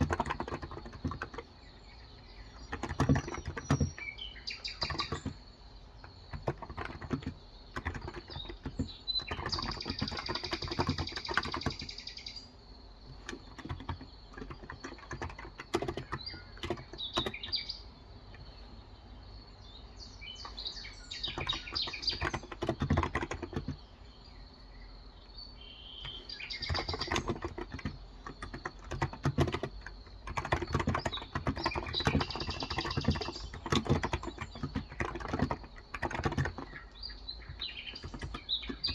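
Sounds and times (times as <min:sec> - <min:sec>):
keyboard typing: 0:00.0 - 0:12.4, 0:13.0 - 0:18.6, 0:20.4 - 0:23.9, 0:26.0 - 0:38.9
birds chirping: 0:00.0 - 0:38.9.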